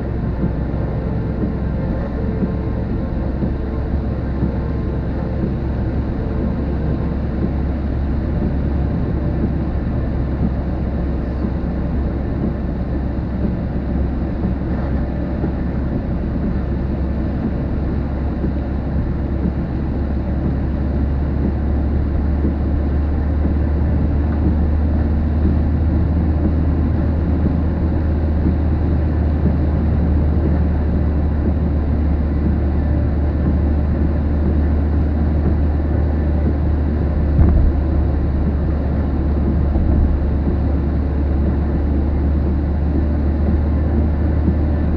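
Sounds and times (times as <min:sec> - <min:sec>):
wind on microphone: 0:00.0 - 0:44.9.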